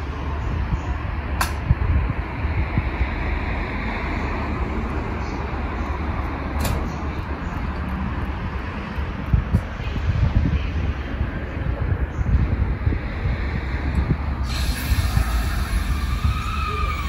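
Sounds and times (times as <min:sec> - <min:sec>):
electric train hum and rumble: 0:00.0 - 0:17.0.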